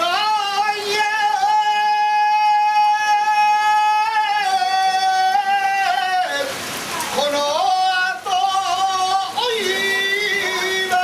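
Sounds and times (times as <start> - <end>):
high voice singing long note: 0.0 - 11.0.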